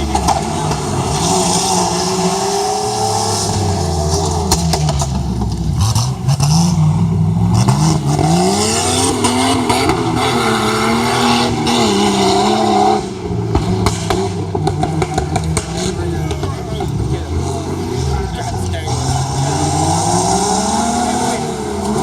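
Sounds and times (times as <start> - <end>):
car engine revving hard: 0.0 - 22.0.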